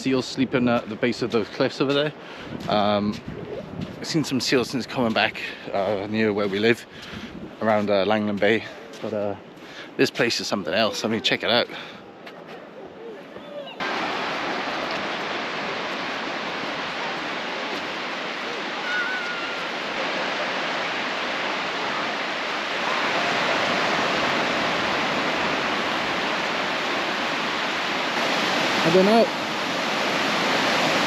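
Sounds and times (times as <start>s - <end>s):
sea surf breaking on shore: 0.0s - 31.0s.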